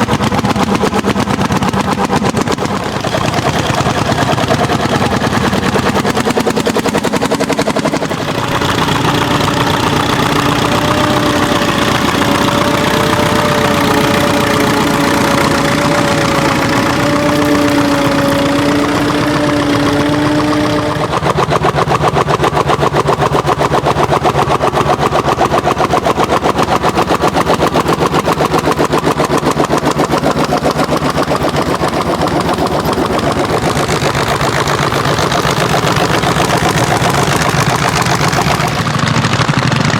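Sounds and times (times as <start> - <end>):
steady whine: 0.0 - 39.9
tractor engine running: 0.0 - 39.9.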